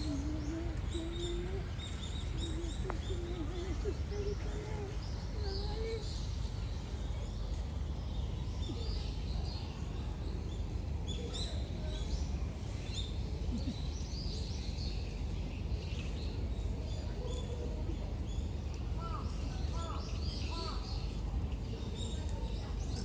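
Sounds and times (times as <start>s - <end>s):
low background rumble: 0.0s - 23.0s
small birds chirping: 0.0s - 23.0s.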